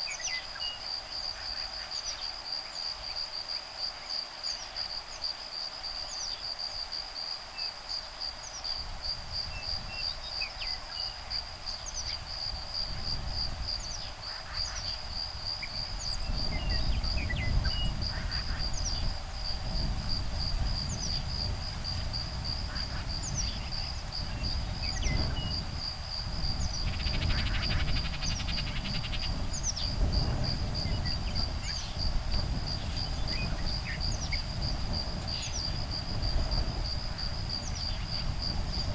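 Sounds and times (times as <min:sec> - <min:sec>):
insects trilling: 0:00.0 - 0:38.9
wind rumble on microphone: 0:04.7 - 0:38.9.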